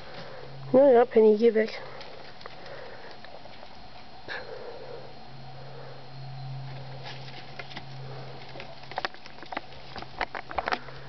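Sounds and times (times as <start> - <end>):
rabbits eating and rustling straw: 0.0 - 4.7, 5.5 - 11.0
low hum: 0.0 - 11.0.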